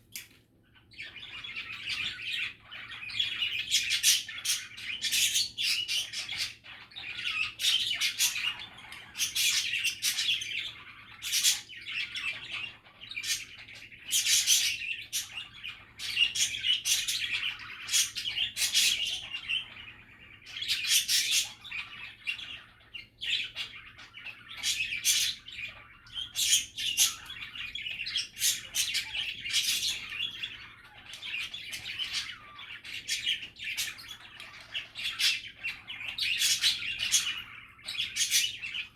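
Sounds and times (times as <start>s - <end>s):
budgies chattering: 0.1s - 38.9s.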